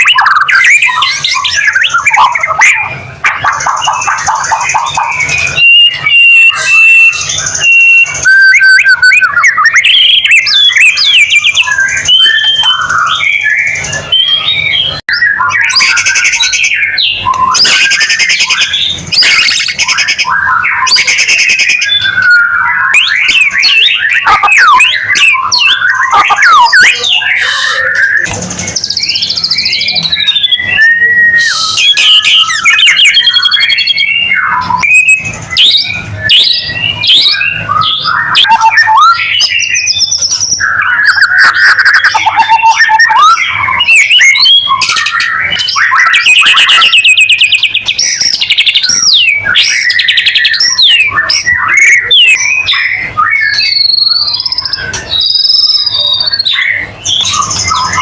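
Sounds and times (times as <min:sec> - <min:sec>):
bird song with whistles and trills: 0:00.0 - 0:58.0.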